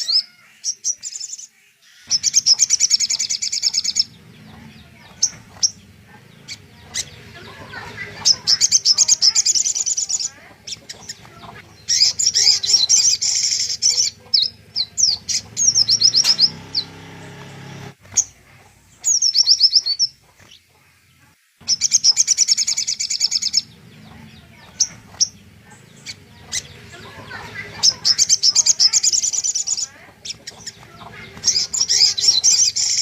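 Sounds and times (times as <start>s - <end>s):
songbird trilling and singing: 0.0s - 20.8s, 21.6s - 33.0s.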